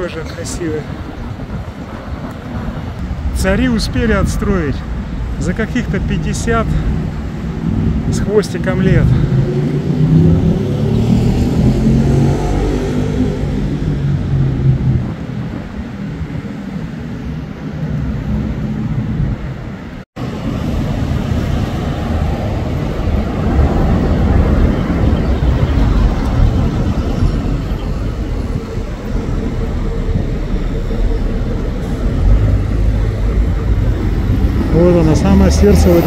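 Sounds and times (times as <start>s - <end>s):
city street traffic: 0.0s - 36.0s
wind rumbling on microphone: 0.0s - 36.0s.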